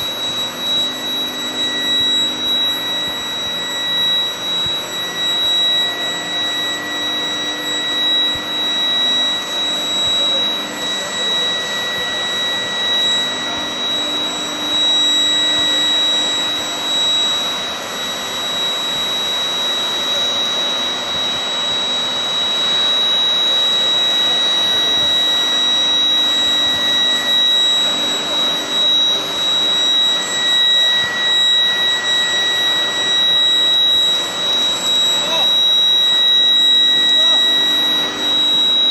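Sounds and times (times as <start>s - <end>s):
constant industrial noise: 0.0s - 38.9s
high-pitched whine: 0.0s - 38.9s.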